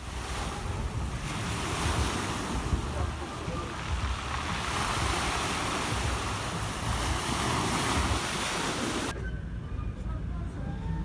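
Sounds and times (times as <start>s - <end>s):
sea surf washing on shore: 0.0s - 9.1s
wind buffeting microphone: 0.0s - 11.0s.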